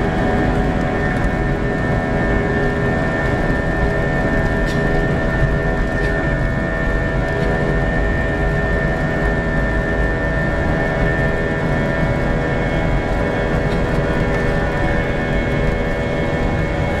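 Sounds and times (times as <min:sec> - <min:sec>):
jet engines whining: 0:00.0 - 0:17.0
low rumble of rolling aircraft: 0:00.0 - 0:17.0.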